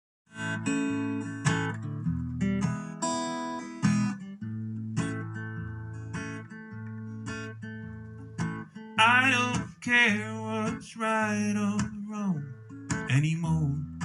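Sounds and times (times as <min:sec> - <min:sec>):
acoustic guitar strummed chords: 0:00.3 - 0:14.0.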